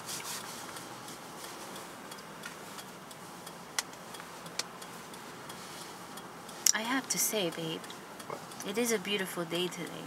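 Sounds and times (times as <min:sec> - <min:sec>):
car cabin road noise: 0:00.0 - 0:10.0
faint ticking: 0:00.0 - 0:10.0.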